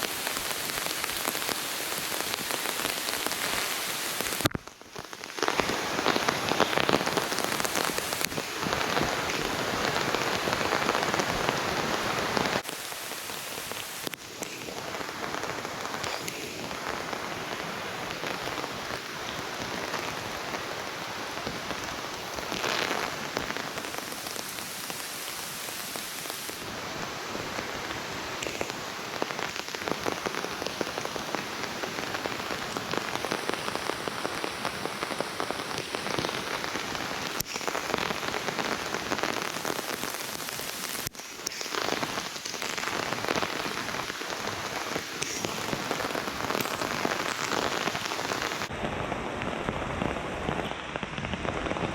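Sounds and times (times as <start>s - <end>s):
heavy rain on foliage: 0.0s - 51.9s.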